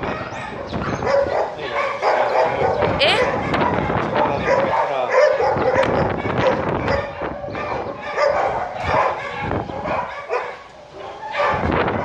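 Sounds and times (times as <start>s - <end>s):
dog barking and yipping: 0.0s - 12.0s.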